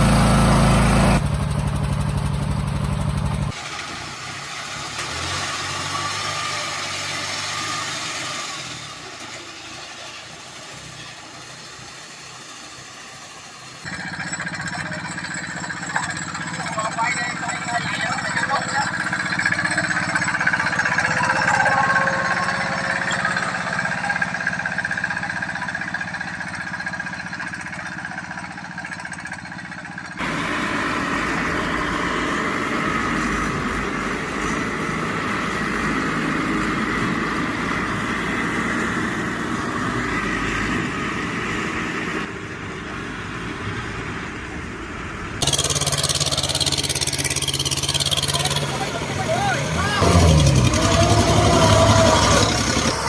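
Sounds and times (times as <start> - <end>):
small tractor engines running: 0.0 - 53.0.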